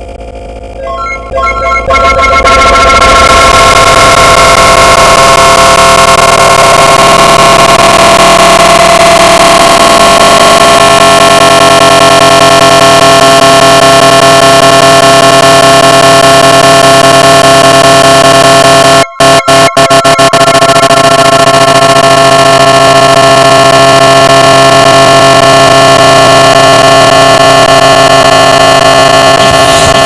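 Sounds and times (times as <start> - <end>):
harsh drone in dense noise: 0.0 - 30.0.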